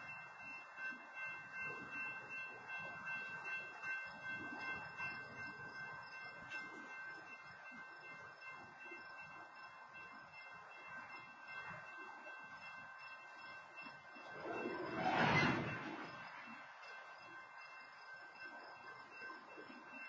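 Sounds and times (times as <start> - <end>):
train freight cars rumbling: 0.0 - 20.0.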